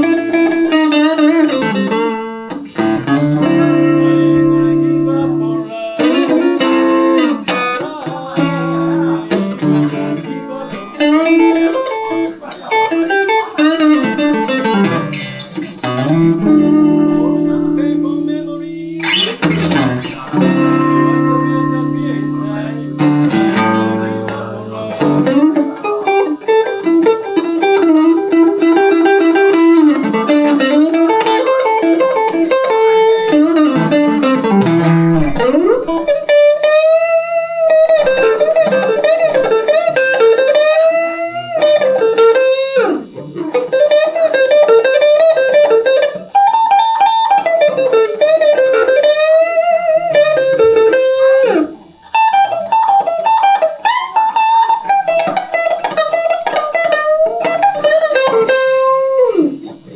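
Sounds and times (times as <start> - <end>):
electric guitar lead playing: 0.0 - 59.9.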